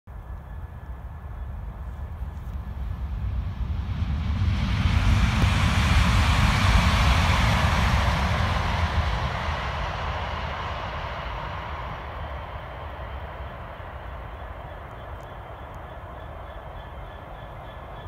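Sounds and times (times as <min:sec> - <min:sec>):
train rumble: 0:00.1 - 0:18.0.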